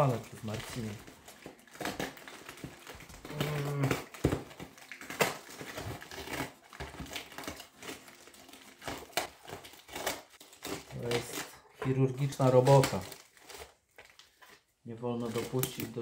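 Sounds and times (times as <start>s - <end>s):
plastic wrap and cardboard crinkling: 0.0s - 16.0s.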